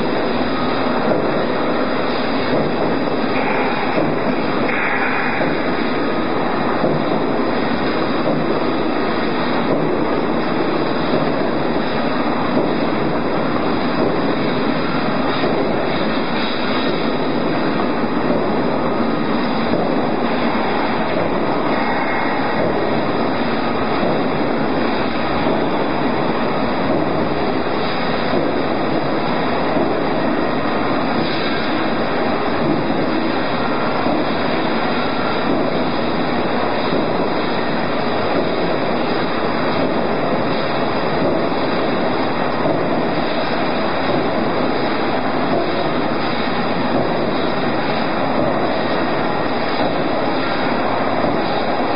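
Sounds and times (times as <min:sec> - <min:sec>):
roll forming machine running: 0:00.0 - 0:51.9.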